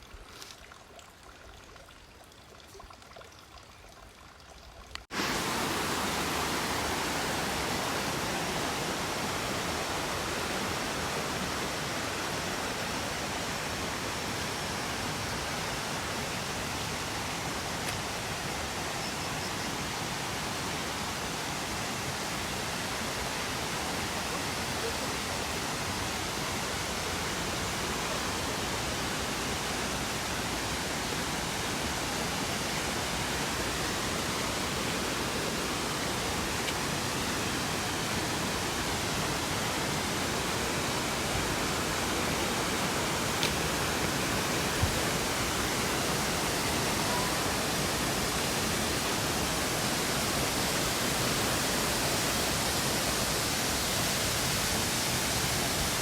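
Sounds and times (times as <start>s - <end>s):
waterfall rushing into pool: 5.0s - 56.0s.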